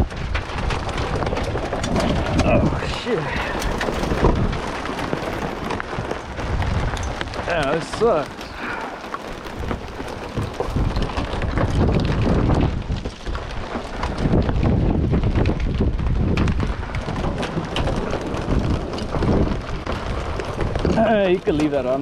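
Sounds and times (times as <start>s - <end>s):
rain falling in small ticks: 0.0s - 22.0s
wind gusting against microphone: 0.0s - 22.0s.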